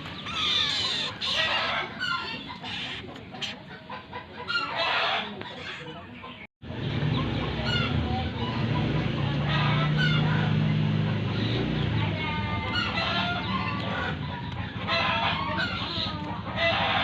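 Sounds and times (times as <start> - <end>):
birds chattering calls: 0.0 - 17.0.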